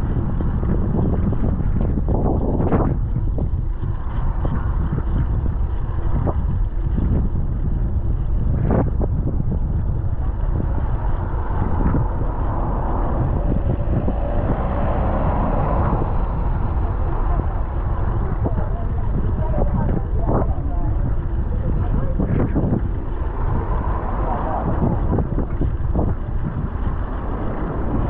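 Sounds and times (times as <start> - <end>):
passing vehicle hum: 0.0 - 28.0
wind buffeting microphone: 0.0 - 28.0.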